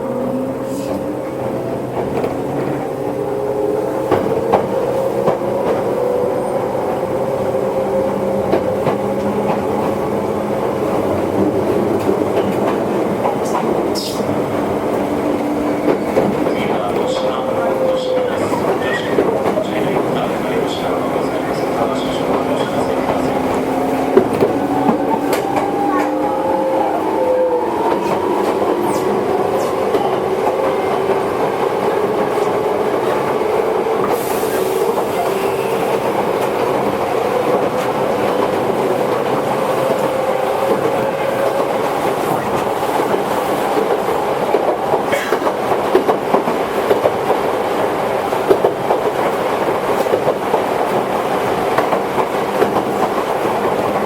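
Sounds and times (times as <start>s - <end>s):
train rolling noise: 0.0s - 54.0s
wheels clacking over rail joints: 8.5s - 26.2s, 27.9s - 54.0s.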